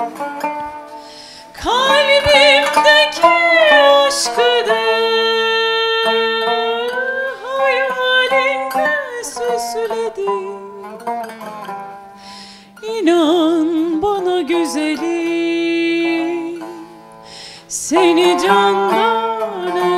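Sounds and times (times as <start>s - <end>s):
plucked lute: 0.0s - 19.9s
woman singing: 1.5s - 11.1s, 12.8s - 17.0s, 17.6s - 19.9s.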